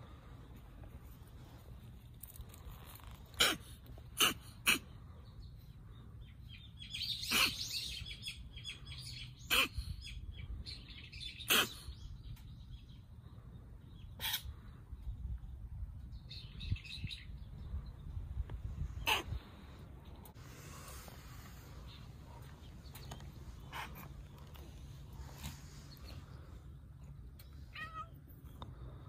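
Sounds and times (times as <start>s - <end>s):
birds chirping: 1.6s - 29.0s.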